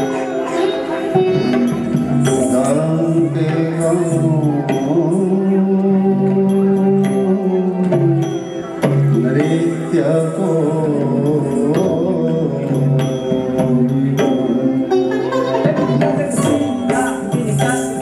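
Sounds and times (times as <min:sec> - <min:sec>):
drum strokes: 0:00.0 - 0:18.0
person singing: 0:00.0 - 0:18.0.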